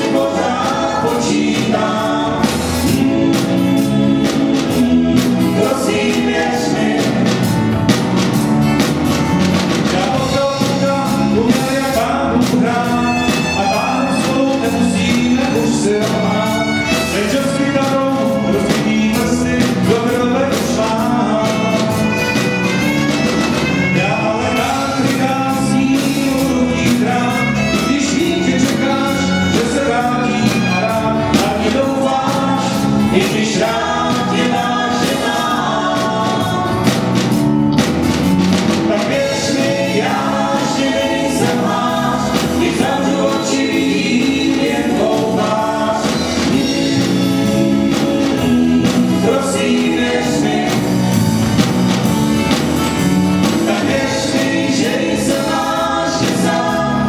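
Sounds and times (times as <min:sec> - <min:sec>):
folk band playing: 0:00.0 - 0:57.0.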